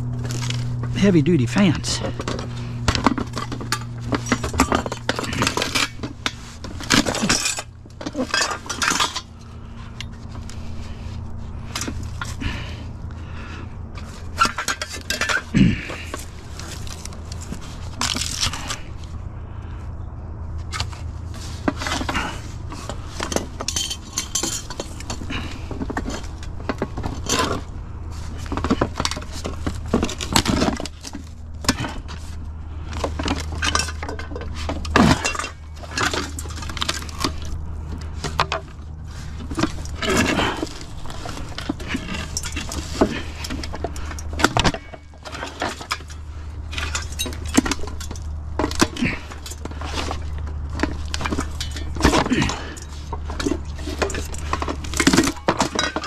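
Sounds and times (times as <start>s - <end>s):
fan parts clinking and knocking: 0.0s - 19.1s, 20.6s - 56.0s
steady low hum: 0.0s - 56.0s.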